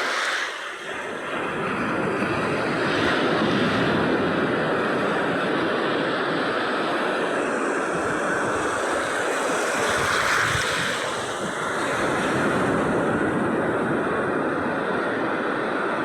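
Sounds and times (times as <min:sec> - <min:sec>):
sea waves rushing surf: 0:00.0 - 0:16.0.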